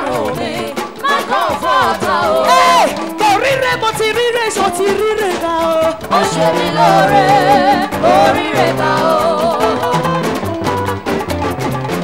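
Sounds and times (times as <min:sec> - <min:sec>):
lead voice singing: 0:00.0 - 0:11.0
live band playing dance beat: 0:00.0 - 0:12.0.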